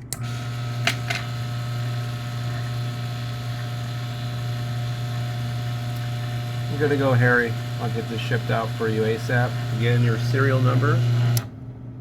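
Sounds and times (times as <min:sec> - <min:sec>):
electric motor humming: 0:00.1 - 0:11.6.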